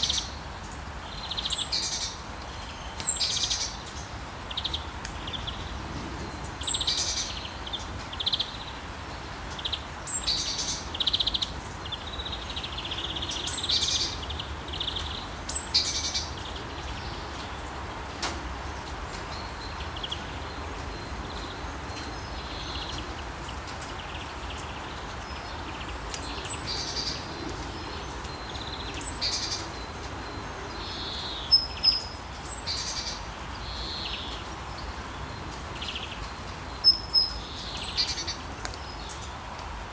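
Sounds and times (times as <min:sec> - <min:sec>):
songbirds chirping: 0:00.0 - 0:39.9
steady background hiss: 0:00.0 - 0:39.9.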